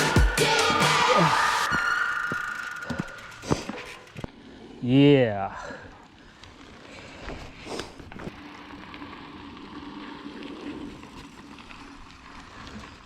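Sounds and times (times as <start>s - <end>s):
bike tyres rolling on dirt: 0.6s - 13.0s.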